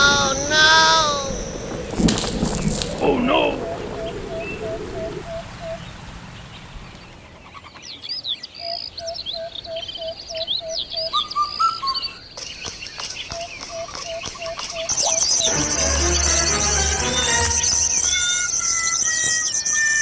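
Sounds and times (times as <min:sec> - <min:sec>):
birds chirping and calling: 0:00.0 - 0:20.0.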